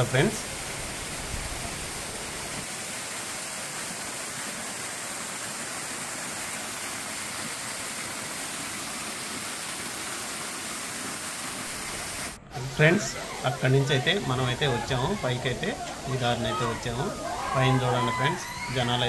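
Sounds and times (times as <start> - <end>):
waterfall rushing over rocks: 0.0 - 19.0.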